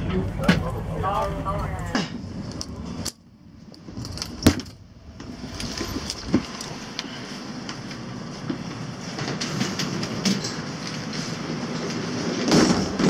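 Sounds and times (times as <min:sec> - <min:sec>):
train carriage noise: 0:00.0 - 0:13.0.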